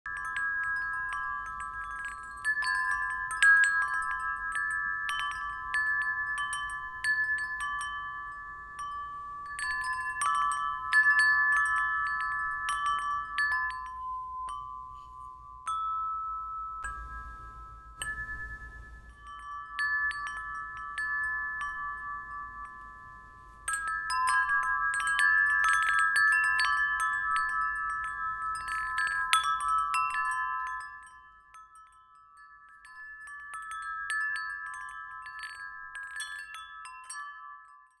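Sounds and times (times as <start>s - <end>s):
metal wind chime ringing: 0.1s - 38.0s.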